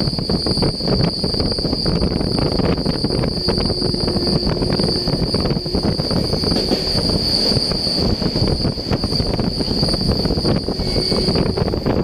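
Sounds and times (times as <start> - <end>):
moving vehicle rumble and rattling: 0.0 - 12.0
steady high-pitched whine: 0.0 - 12.0.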